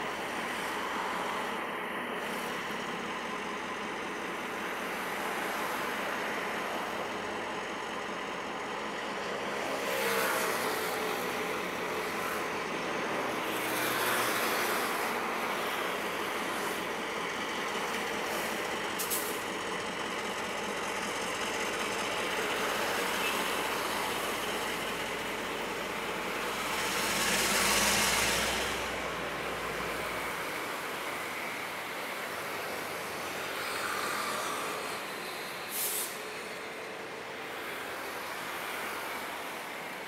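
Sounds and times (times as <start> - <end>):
train wheel and rail noise: 0.0 - 40.0.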